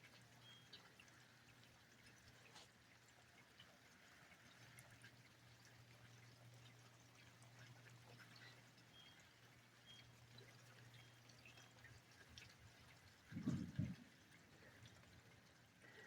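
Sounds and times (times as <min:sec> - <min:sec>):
faint dripping rain: 0:00.0 - 0:16.0.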